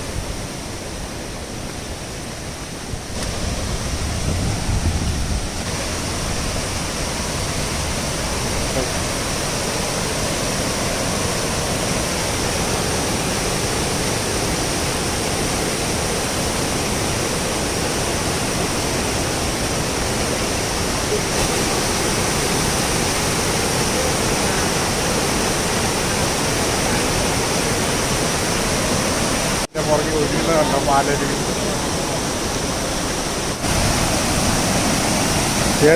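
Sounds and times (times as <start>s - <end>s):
waterfall pouring over rocks: 0.0s - 35.9s.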